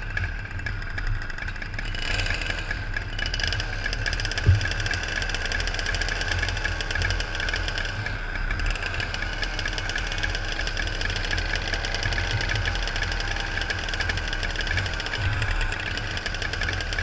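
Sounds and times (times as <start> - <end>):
kart engine idling: 0.0 - 17.0.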